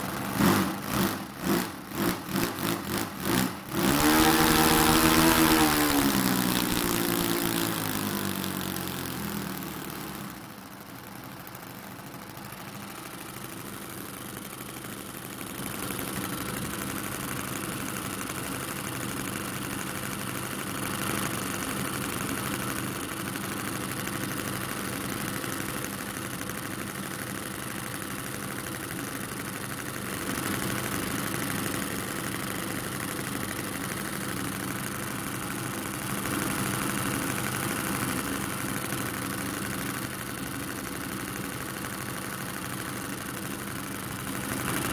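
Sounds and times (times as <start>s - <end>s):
model plane engines idling: 0.0s - 44.9s.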